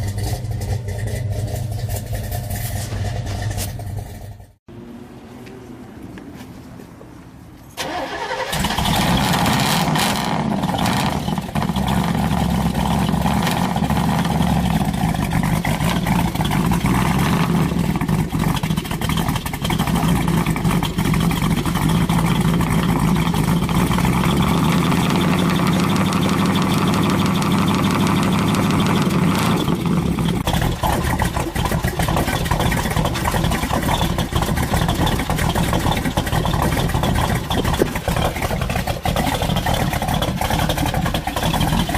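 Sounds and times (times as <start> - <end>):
car engine starting and running: 0.0 - 41.9.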